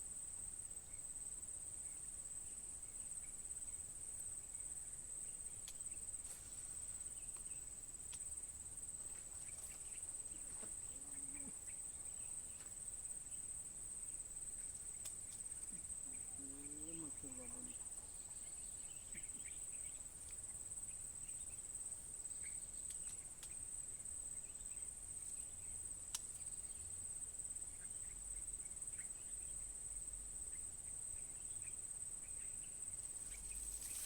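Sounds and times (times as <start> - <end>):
insects trilling: 0.1 - 34.0.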